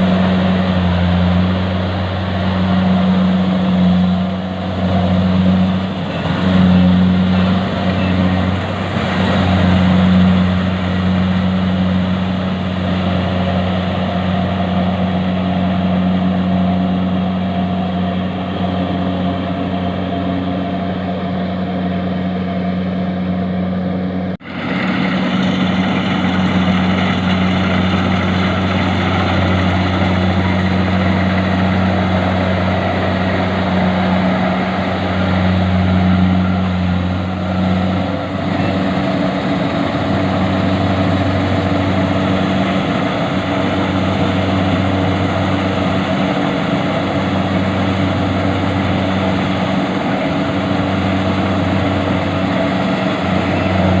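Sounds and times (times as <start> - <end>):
harvesting machine engine droning: 0.0 - 54.0.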